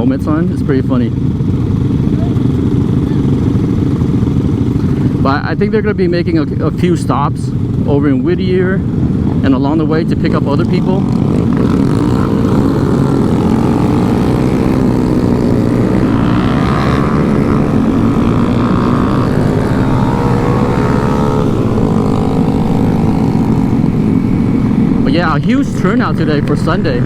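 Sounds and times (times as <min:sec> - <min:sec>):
small motorcycle engines droning: 0:00.0 - 0:27.0.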